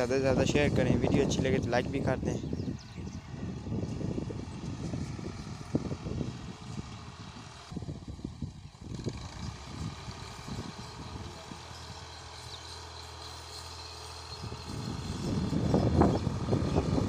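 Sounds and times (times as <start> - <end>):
distant tractor engine rumble: 0.0 - 17.0.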